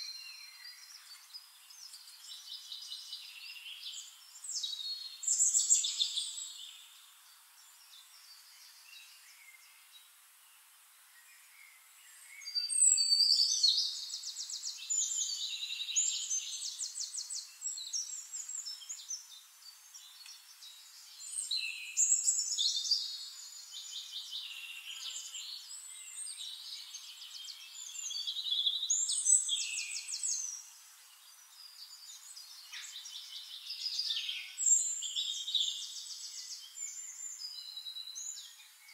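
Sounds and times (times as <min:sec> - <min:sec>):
songbirds trilling and chirping: 0:00.0 - 0:38.9.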